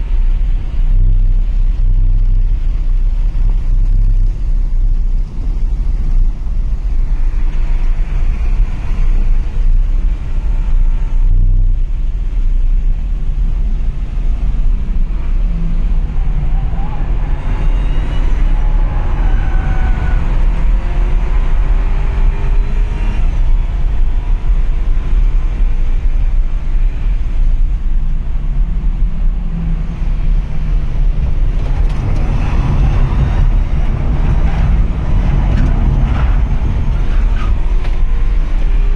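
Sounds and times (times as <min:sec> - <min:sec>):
car cabin rumble: 0:00.0 - 0:38.9.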